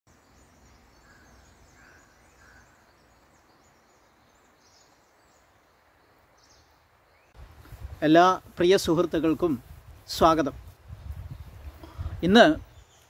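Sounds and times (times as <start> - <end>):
low steady background noise: 0.1 - 10.9.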